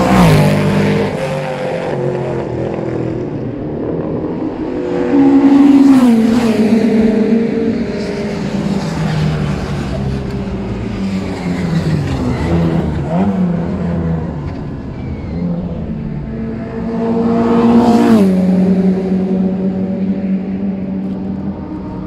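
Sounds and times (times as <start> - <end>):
racing car engines passing: 0.0 - 22.0.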